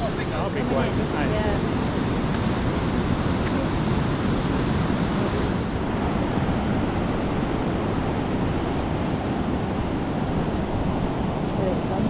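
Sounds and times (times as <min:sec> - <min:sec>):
sea surf breaking: 0:00.0 - 0:12.0.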